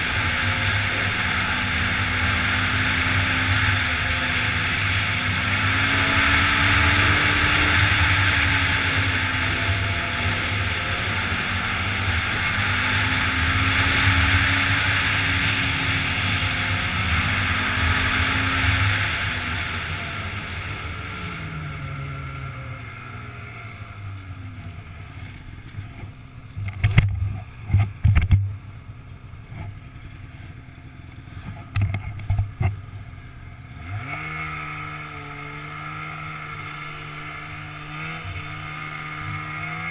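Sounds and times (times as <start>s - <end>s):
snowmobile engine running: 0.0s - 39.9s
track and wind hiss: 0.0s - 39.9s.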